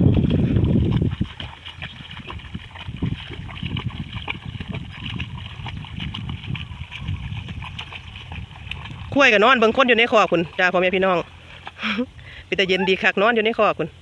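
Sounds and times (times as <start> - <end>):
muddy water sloshing: 0.0 - 14.0.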